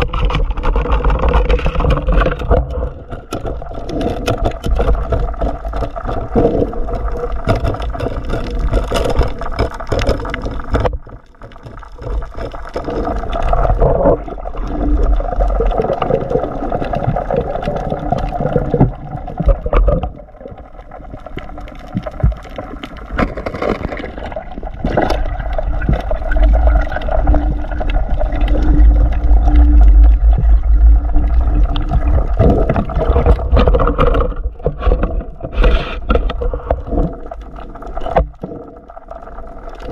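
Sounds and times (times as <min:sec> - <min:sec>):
deep underwater rumble: 0:00.0 - 0:39.9
water swishing and gurgling: 0:00.0 - 0:39.9.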